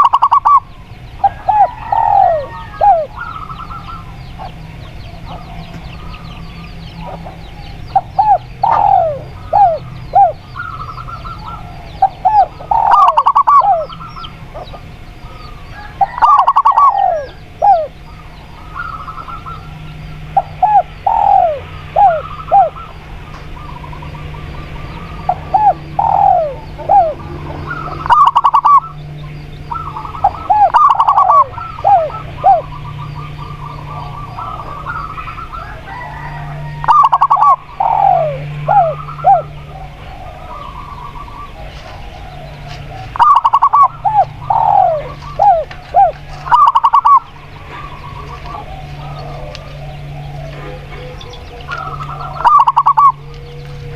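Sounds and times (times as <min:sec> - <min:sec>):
doves cooing: 0:00.0 - 0:53.9.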